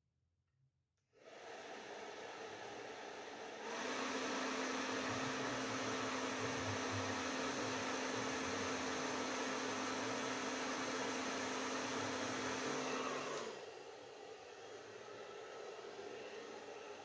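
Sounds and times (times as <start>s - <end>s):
hair dryer blowing: 1.2s - 17.0s.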